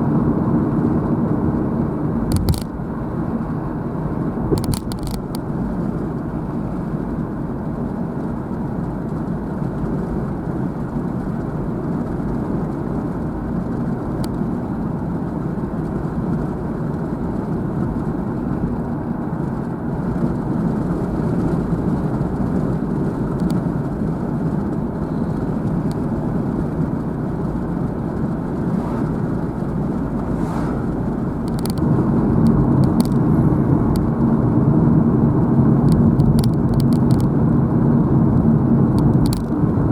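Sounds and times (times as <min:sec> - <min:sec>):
car tyre and engine noise: 0:00.0 - 0:39.9.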